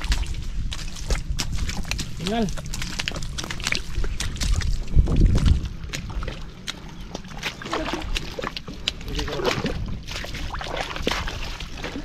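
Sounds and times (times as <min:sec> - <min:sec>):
footsteps squelching in mud: 0:00.0 - 0:12.0
low rumble: 0:00.0 - 0:12.0.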